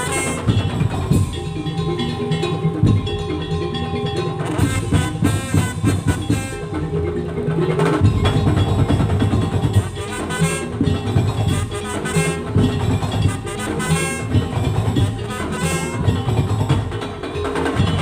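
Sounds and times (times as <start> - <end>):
held melodic notes: 0.0 - 18.0
slit drums and drums beating: 0.0 - 18.0.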